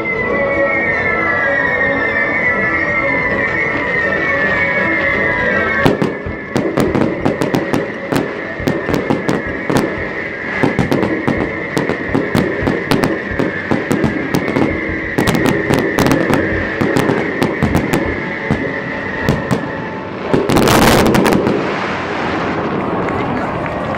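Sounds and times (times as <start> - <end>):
music playing: 0.0 - 23.8
fireworks bangs and crackles: 2.2 - 23.9.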